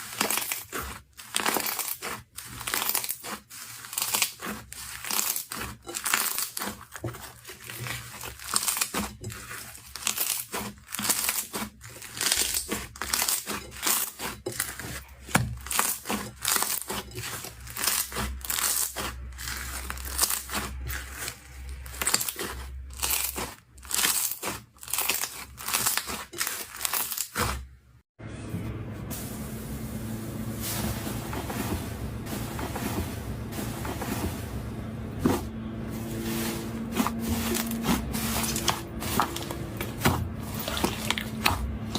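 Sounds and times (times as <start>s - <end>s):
slime squishing: 0.0s - 27.9s, 30.7s - 41.9s.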